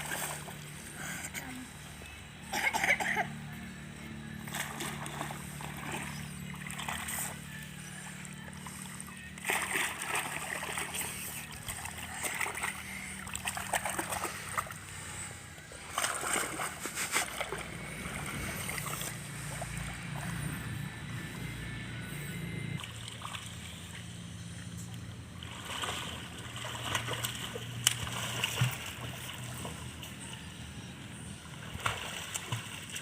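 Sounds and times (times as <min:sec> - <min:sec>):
pool water splashing: 0:00.0 - 0:01.2, 0:03.9 - 0:21.5, 0:22.4 - 0:33.0.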